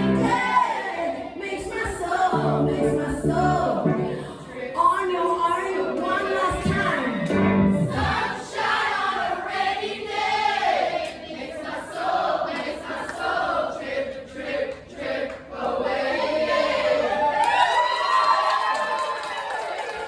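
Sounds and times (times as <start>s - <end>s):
group of voices singing: 0.0s - 17.1s.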